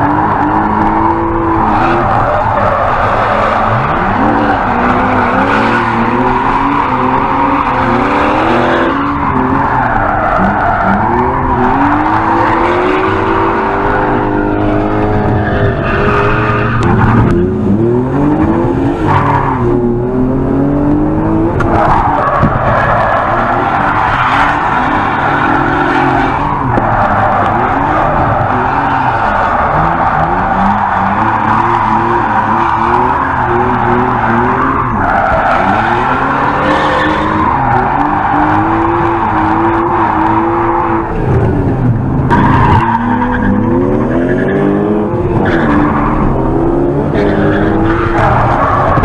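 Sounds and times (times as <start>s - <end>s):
tyres squealing and skidding: 0.0s - 20.0s, 21.3s - 49.0s
car engine revving: 0.0s - 49.0s.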